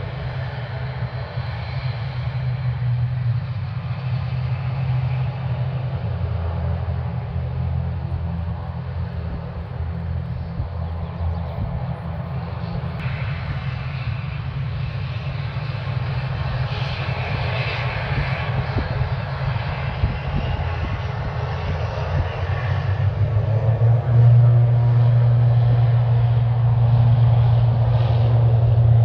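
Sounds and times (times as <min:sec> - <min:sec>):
high turbine whine: 0:00.0 - 0:29.0
propeller drone: 0:00.0 - 0:29.0.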